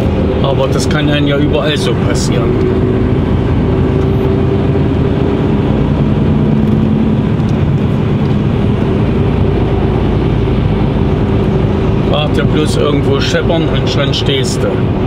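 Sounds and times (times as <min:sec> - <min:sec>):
diesel truck engine drone: 0:00.0 - 0:15.0
tyre and road noise: 0:00.0 - 0:15.0.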